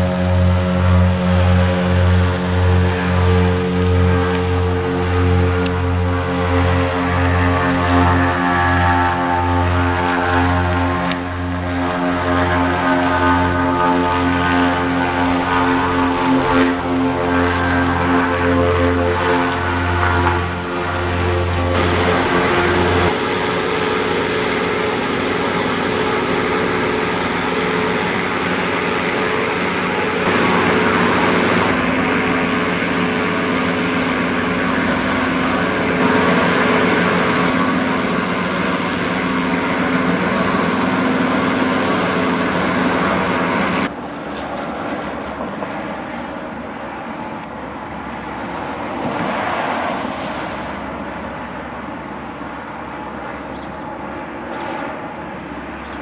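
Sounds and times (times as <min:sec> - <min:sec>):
airship drone in flight: 0:00.0 - 0:56.0
airship engines and propellers humming: 0:00.0 - 0:56.0.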